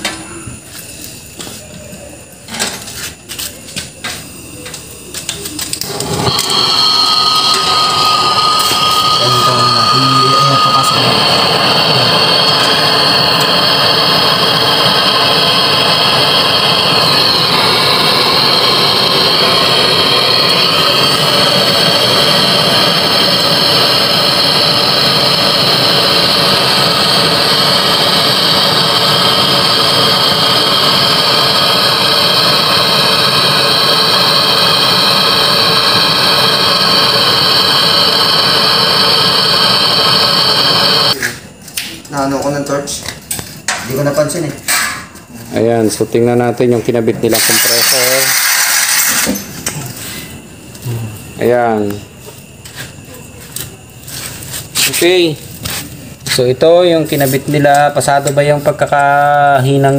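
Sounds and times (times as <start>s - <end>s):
gas torch hissing: 4.0s - 41.9s, 43.4s - 52.9s, 53.6s - 59.9s.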